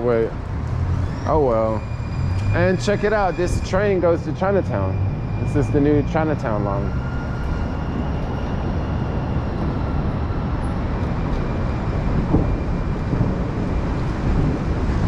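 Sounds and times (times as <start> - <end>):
light-rail train rumbling past: 0.0 - 15.0.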